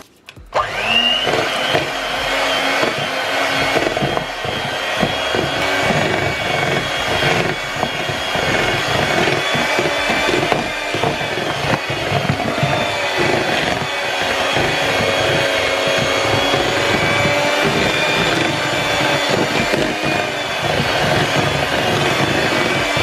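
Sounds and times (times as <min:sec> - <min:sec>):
electric mixer whining: 0:00.5 - 0:23.0.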